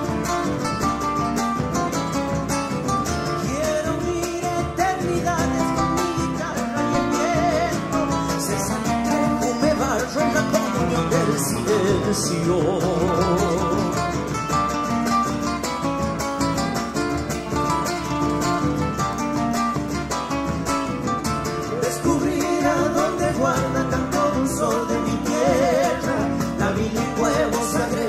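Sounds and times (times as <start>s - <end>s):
acoustic guitars strumming: 0.0s - 28.0s.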